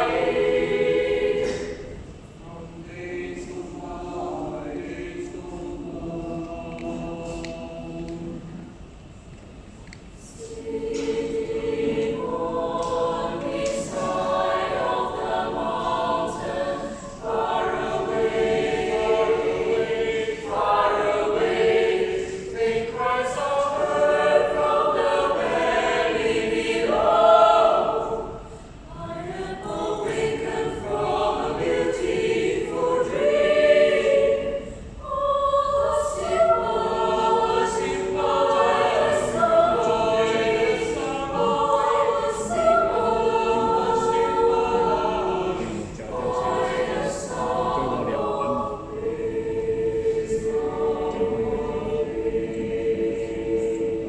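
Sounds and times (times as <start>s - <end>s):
choir singing unaccompanied: 0.0s - 9.0s, 10.2s - 54.0s.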